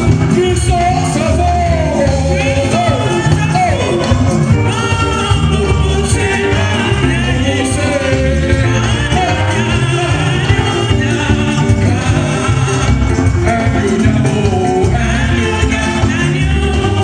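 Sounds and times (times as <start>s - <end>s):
band music with steady bass: 0.0s - 17.0s
man singing into a microphone: 0.0s - 17.0s
people singing along: 0.4s - 17.0s.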